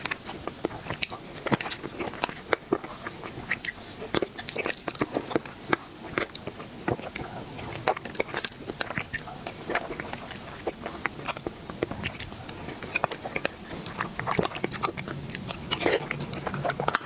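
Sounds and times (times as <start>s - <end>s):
mouth clicks: 0.1s - 17.0s
person biting and chewing: 0.1s - 17.0s.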